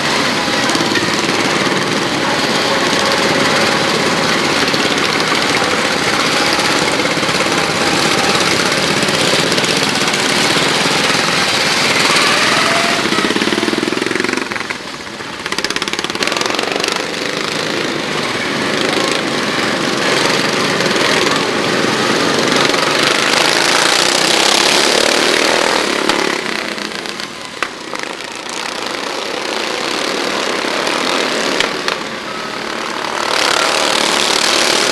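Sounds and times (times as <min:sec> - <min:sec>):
lawn mower engines racing: 0:00.0 - 0:34.9.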